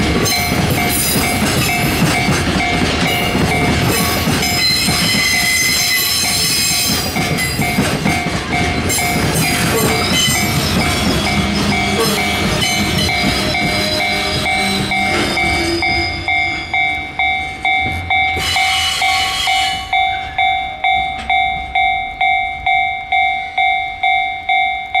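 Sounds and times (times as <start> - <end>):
freight wagons rolling past: 0.0 - 22.3
level crossing bell ringing: 0.2 - 25.0.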